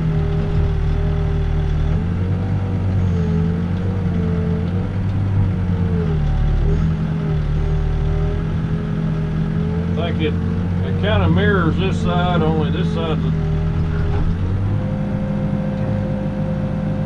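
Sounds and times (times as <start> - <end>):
backhoe diesel engine running: 0.0 - 17.0.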